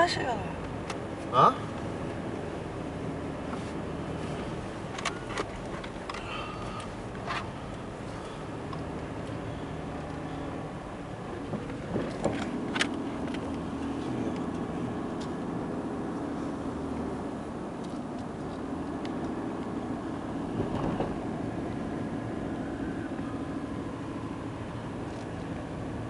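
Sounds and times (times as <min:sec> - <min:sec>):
car engine and road hum: 0:00.0 - 0:26.0.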